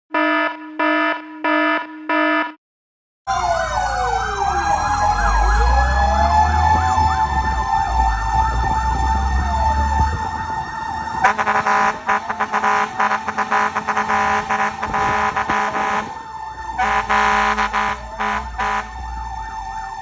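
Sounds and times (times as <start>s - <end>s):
emergency sirens wailing: 0.1s - 2.5s, 3.3s - 20.0s.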